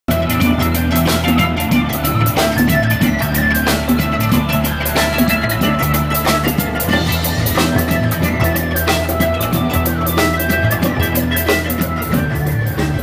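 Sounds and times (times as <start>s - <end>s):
drum kit beat: 0.1s - 13.0s
electric bass guitar: 0.1s - 13.0s
guitar: 0.1s - 13.0s
mandolin: 0.1s - 13.0s.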